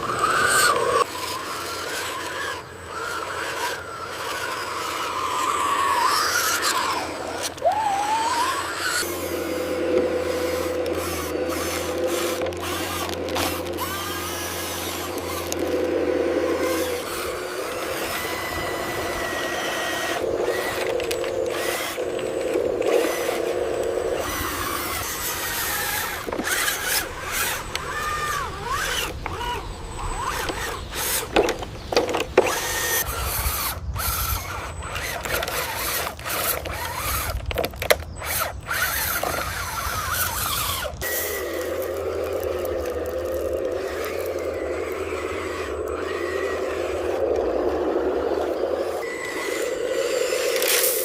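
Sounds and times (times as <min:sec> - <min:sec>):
small electric motors whining: 0:00.0 - 0:51.0.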